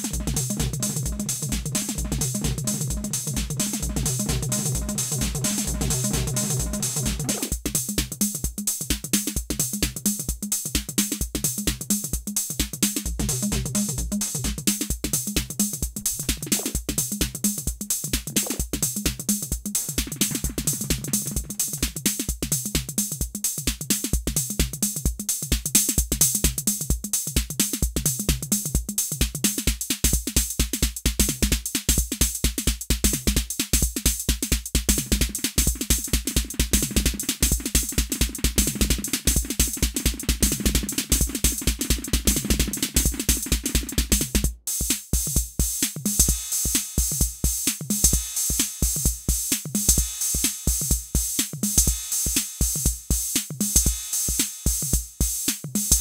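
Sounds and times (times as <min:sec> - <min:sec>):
drum machine electronic beat: 0:00.0 - 0:56.0.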